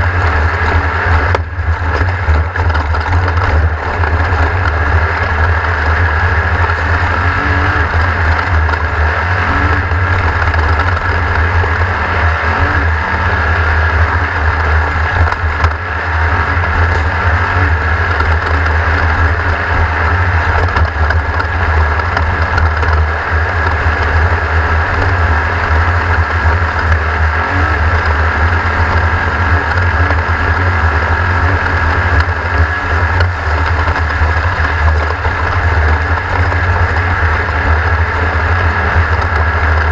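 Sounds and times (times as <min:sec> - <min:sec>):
race car engine rumbling: 0:00.0 - 0:39.9
thin steady whine: 0:00.0 - 0:39.9.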